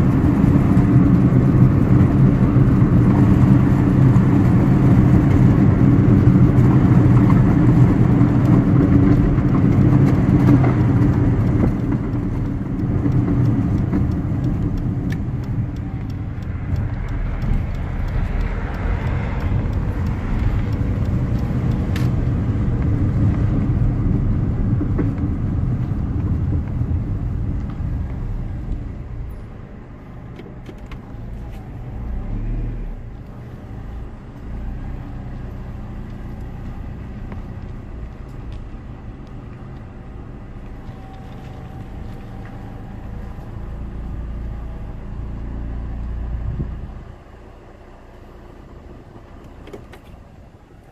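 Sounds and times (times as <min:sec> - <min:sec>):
road and tyre noise: 0:00.0 - 0:50.9.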